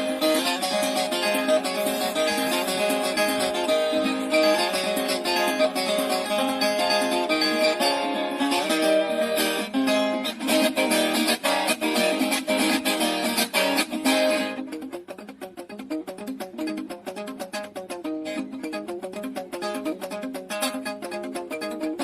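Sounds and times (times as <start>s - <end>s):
guitar strummed in quick rhythm: 0.0s - 22.0s.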